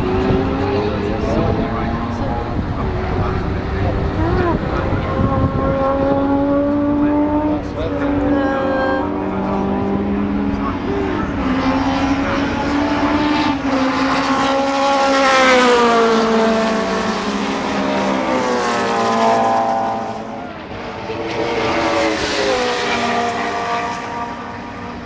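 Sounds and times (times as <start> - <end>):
racing car engines passing: 0.0 - 25.0.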